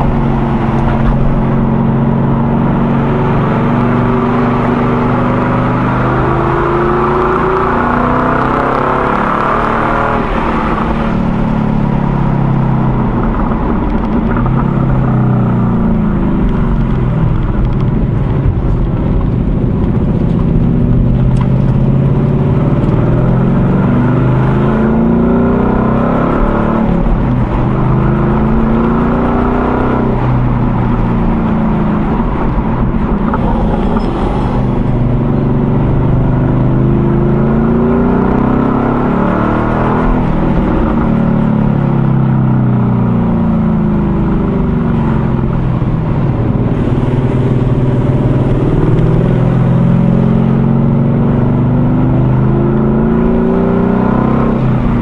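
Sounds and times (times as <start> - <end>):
car engine accelerating through gears: 0.0 - 55.0
road and wind noise: 0.0 - 55.0.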